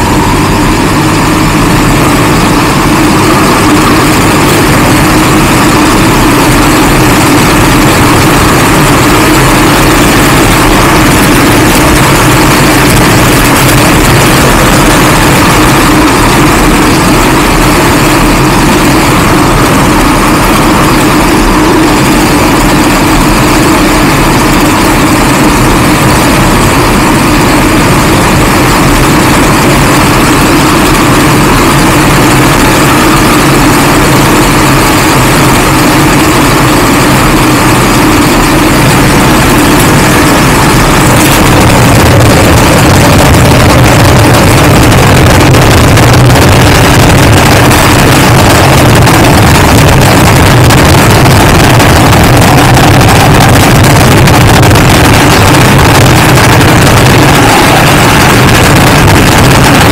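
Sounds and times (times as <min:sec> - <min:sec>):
motorcycle engine: 0:00.0 - 0:59.9
rush of air: 0:00.0 - 0:59.9.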